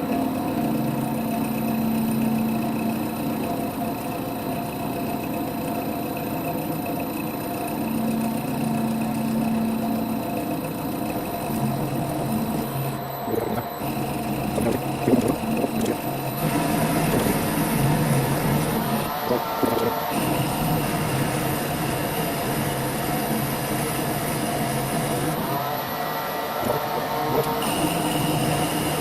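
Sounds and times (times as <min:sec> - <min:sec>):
lathe humming and whining: 0:00.0 - 0:29.0.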